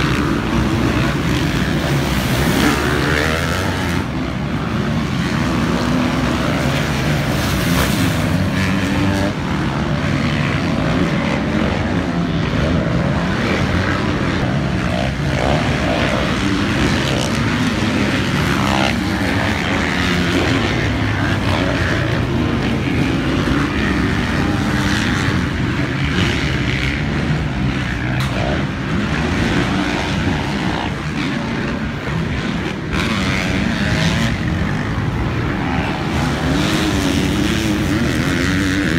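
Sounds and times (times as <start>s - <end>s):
motocross bike engine running: 0.0s - 38.9s.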